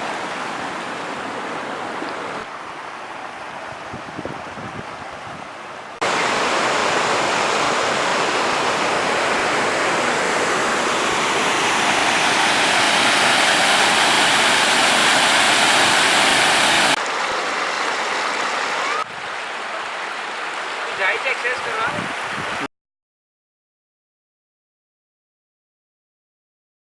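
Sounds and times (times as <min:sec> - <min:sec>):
waterfall roaring: 0:00.0 - 0:22.7.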